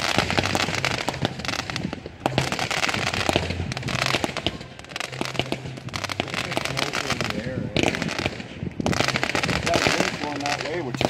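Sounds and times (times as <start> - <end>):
fireworks bangs: 0.0 - 11.0
fireworks crackling and popping: 0.0 - 11.0.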